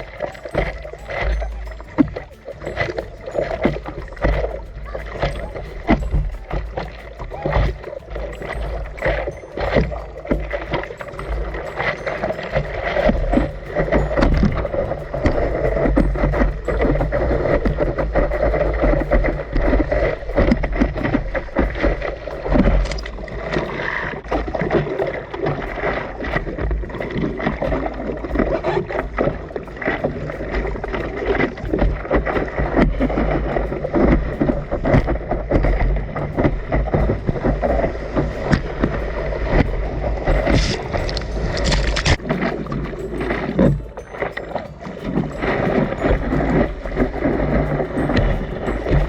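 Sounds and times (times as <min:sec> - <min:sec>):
sea water splashing: 0:00.0 - 0:49.0.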